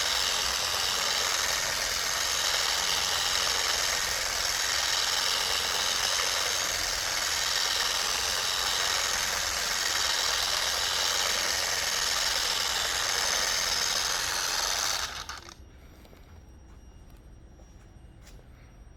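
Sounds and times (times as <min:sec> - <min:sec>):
polishing machine running: 0:00.0 - 0:15.6.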